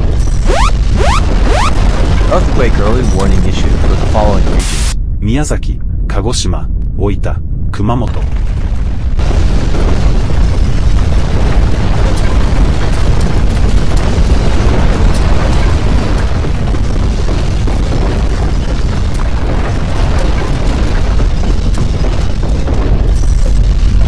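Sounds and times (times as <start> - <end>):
crackling and rattling: 0.0 - 4.8, 8.0 - 24.0
deep rumble: 0.0 - 24.0.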